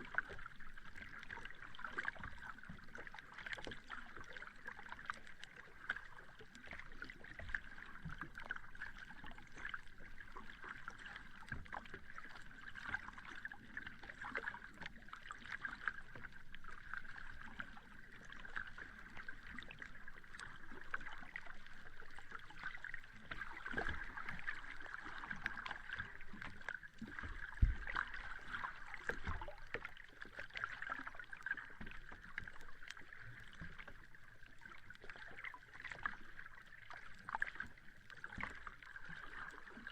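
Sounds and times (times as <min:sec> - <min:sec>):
sea water lapping at shore: 0:00.0 - 0:39.9.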